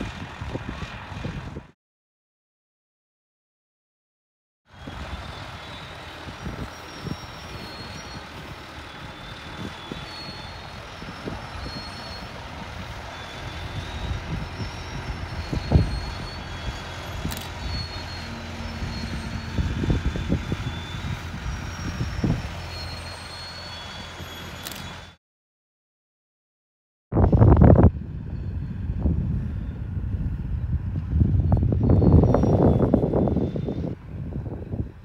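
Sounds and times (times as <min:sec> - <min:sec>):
tow tractor engine running: 0:00.0 - 0:01.7, 0:04.7 - 0:25.2, 0:27.3 - 0:35.0.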